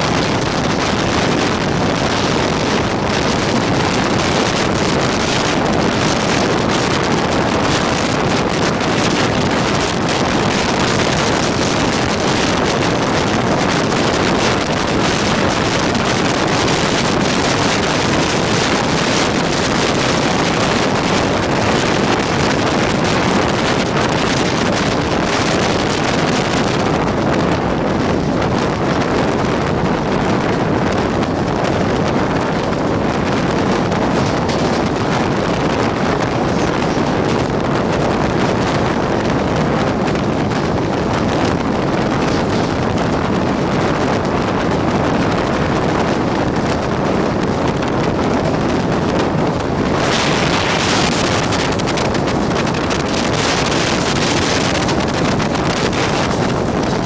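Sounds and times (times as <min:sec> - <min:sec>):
train running at speed: 0:00.0 - 0:57.0
wind buffeting microphone: 0:00.0 - 0:57.0.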